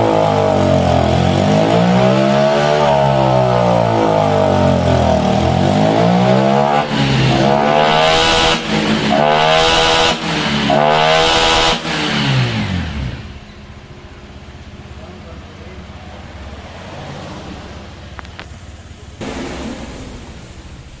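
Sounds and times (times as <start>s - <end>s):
scooter engine revving: 0.0s - 20.9s.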